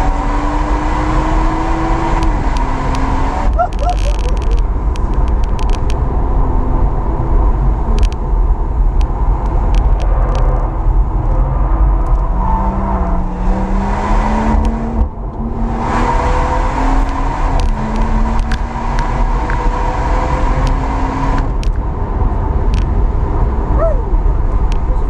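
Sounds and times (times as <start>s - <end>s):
car engine revving: 0.0s - 25.0s
tyre and road rumble: 0.0s - 25.0s.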